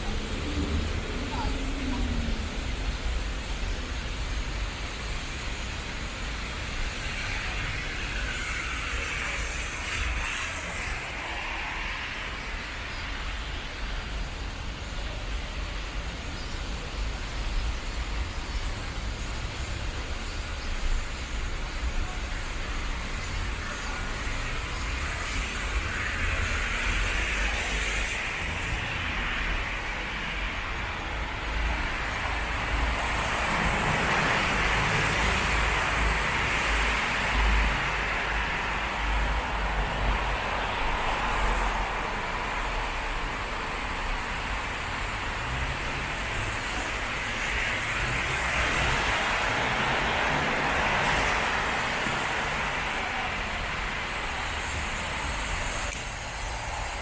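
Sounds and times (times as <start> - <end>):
low traffic rumble: 0.0 - 57.0
tyres hissing on wet road: 0.0 - 57.0.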